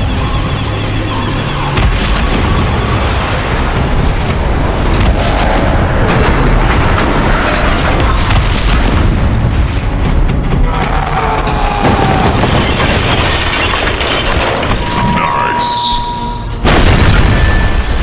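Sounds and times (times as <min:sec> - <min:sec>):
music: 0:00.0 - 0:06.1, 0:07.1 - 0:18.0
rumble of explosions: 0:00.0 - 0:18.0.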